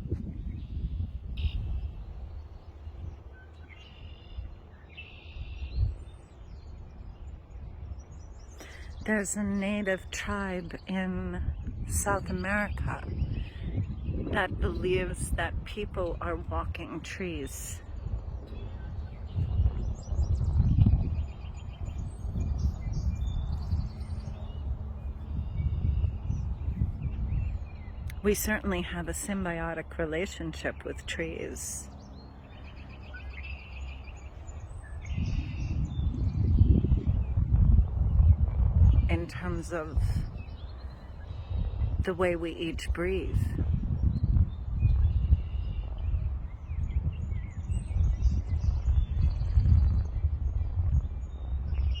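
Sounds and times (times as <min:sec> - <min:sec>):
small birds chirping: 0:00.0 - 0:15.3, 0:16.0 - 0:52.0
wind rumble on microphone: 0:00.0 - 0:52.0.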